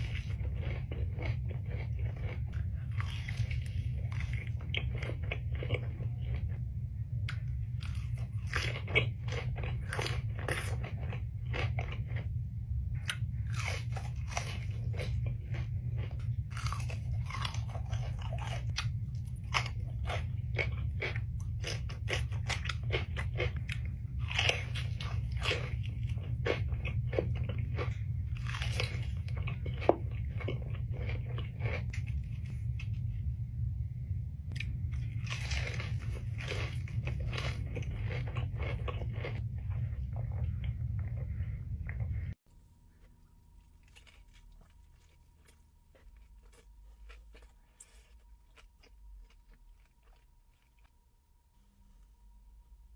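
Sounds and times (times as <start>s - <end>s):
crunchy chewing: 0.0s - 33.4s, 34.5s - 52.6s
steady low hum: 0.0s - 52.9s.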